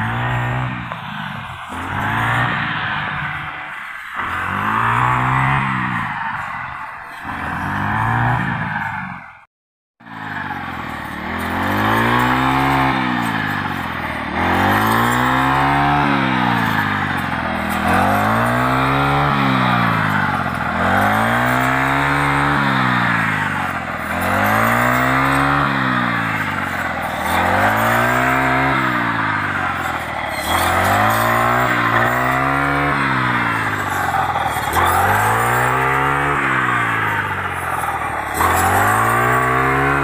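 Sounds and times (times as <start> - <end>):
blade cutting through stalks: 0.0 - 9.1, 10.0 - 40.0
brush cutter engine revving: 0.0 - 9.2, 10.0 - 40.0.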